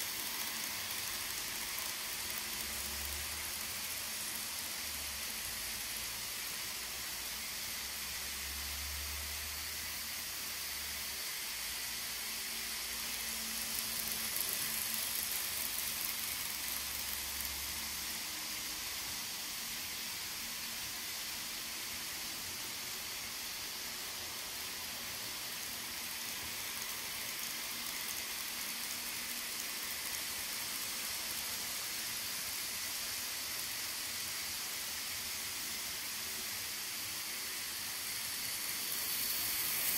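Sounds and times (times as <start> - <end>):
model trains whirring on track: 0.0 - 39.9.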